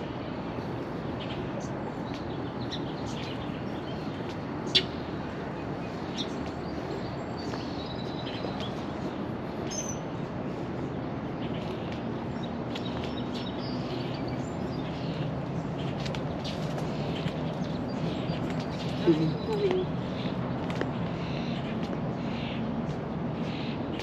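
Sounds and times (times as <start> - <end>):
distant city rumble: 0.0 - 24.0
songbirds chirping: 0.0 - 24.0.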